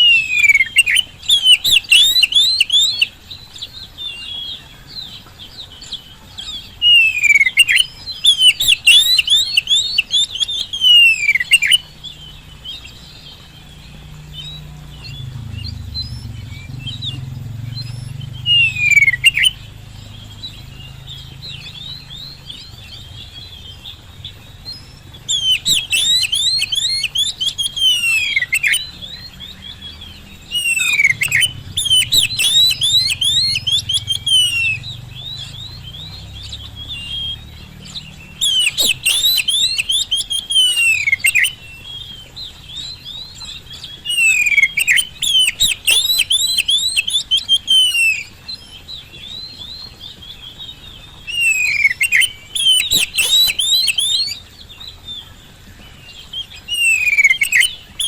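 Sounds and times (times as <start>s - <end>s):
bird singing sharp whistles: 0.0s - 58.0s.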